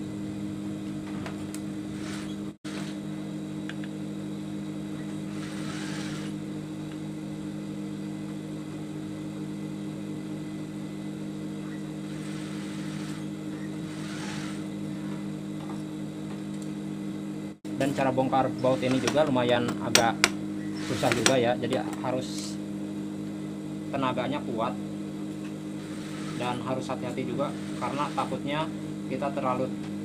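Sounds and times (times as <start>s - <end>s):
low electric motor hum: 0.0s - 30.0s.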